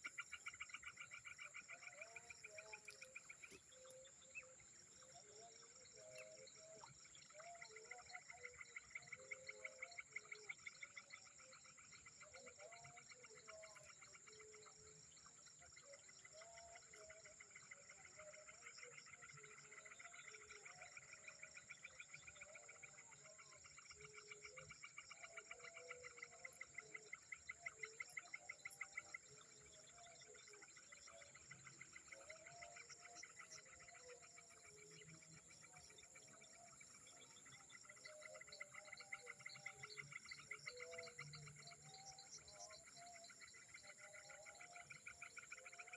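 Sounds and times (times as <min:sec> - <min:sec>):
frogs and insects trilling: 0:00.0 - 0:45.9.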